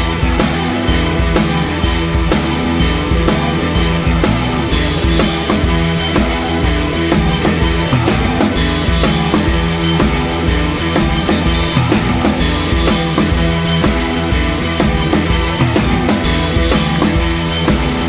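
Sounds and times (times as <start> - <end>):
drum kit beat: 0.0 - 18.0
rock music: 0.0 - 18.0.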